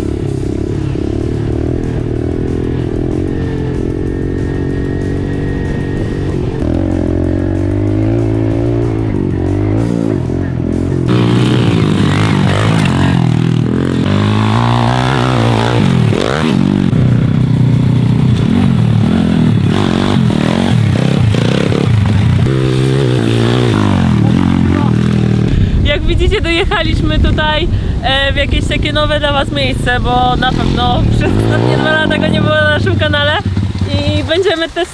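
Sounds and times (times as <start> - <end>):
background music: 0.0 - 34.9
motorcycle engine revving: 0.0 - 34.9.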